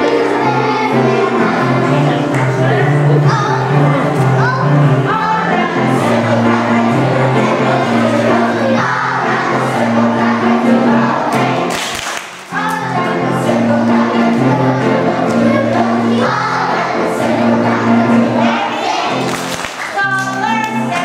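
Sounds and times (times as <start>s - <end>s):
children singing: 0.0s - 11.9s, 12.5s - 19.6s
instrumental accompaniment: 0.0s - 21.0s.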